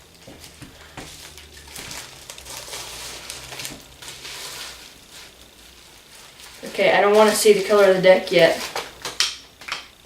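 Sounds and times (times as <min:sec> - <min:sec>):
package rustling and crinkling: 0:00.0 - 0:10.0.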